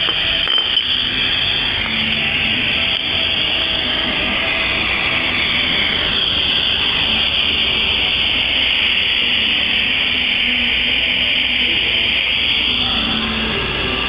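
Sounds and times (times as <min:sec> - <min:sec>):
gas torch hissing: 0:00.0 - 0:14.0.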